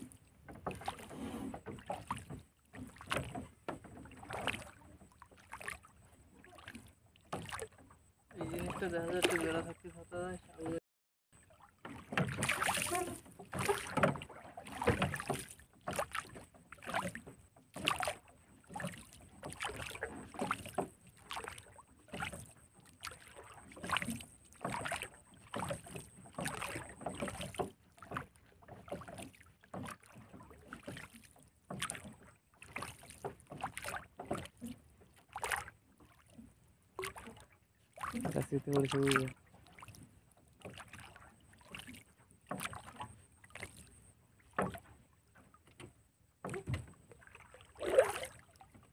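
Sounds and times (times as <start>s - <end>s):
water lapping against wooden boat: 0.0s - 48.9s.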